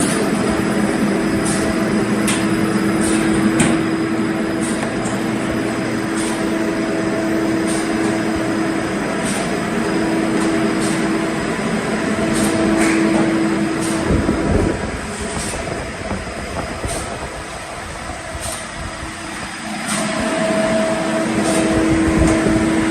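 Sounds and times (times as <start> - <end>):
cutting machine hum: 0.0 - 16.2, 19.2 - 22.9.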